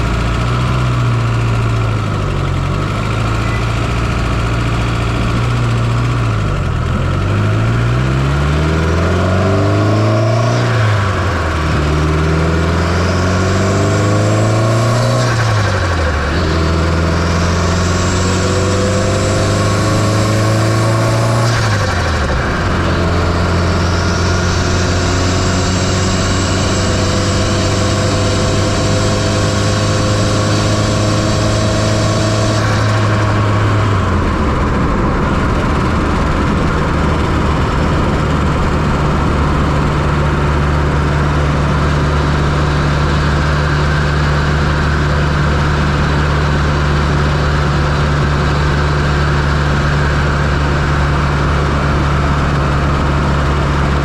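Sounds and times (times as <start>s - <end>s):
engine idling: 0.0s - 54.0s
high whine with rising tones: 3.0s - 54.0s.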